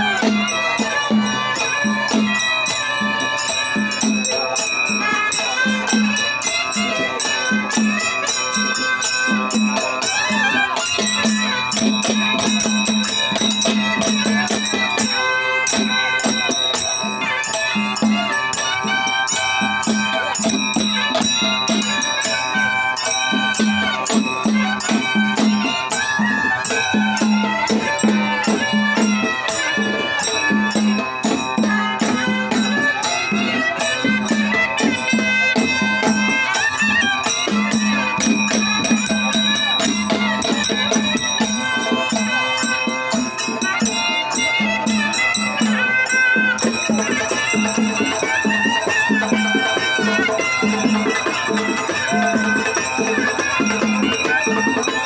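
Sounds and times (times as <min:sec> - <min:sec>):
wavering melody line: 0:00.0 - 0:55.0.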